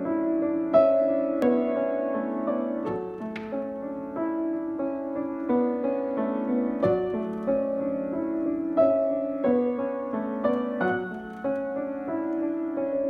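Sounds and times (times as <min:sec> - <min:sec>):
upright piano playing: 0:00.0 - 0:13.0.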